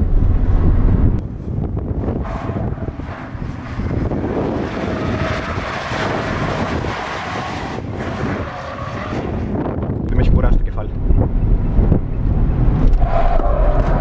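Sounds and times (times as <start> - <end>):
car engine running hard: 0.0 - 13.0
wind buffeting microphone: 0.0 - 14.0.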